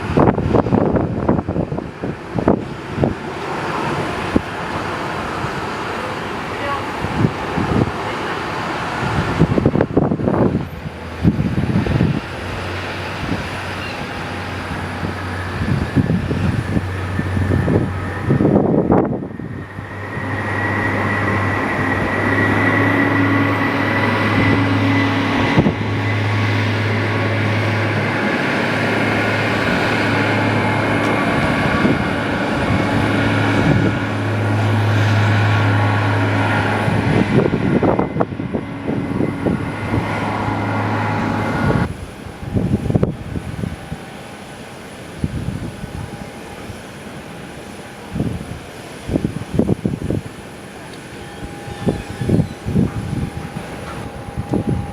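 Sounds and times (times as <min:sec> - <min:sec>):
aircraft engines humming: 0:00.0 - 0:54.9
high engine whine: 0:00.0 - 0:54.9
wind buffeting microphone: 0:00.0 - 0:54.9.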